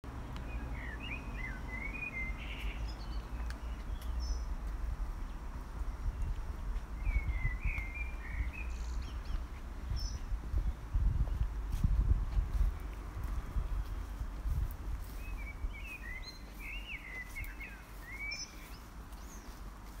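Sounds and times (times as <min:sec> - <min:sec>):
songbirds chirping: 0:00.1 - 0:20.0
steady low rumble: 0:00.1 - 0:20.0.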